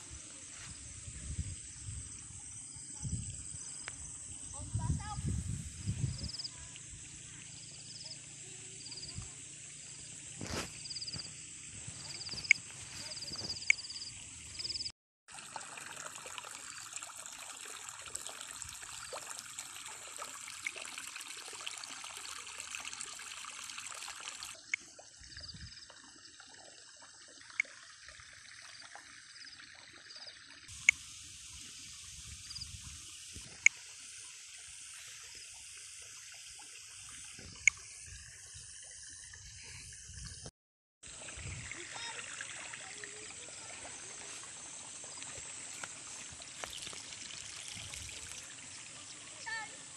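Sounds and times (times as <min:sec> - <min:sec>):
water trickling: 0:00.0 - 0:49.9.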